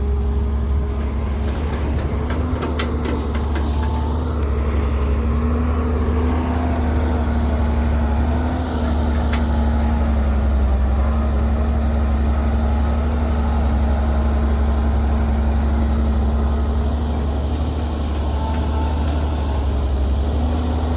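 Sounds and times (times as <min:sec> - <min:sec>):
excavator engine droning: 0:00.0 - 0:20.9.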